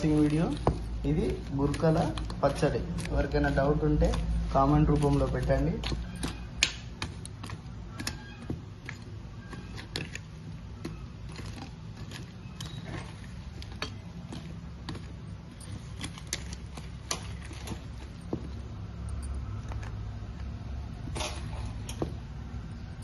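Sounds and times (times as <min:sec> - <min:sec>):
spoon scraping steel bowl: 0:00.0 - 0:20.0.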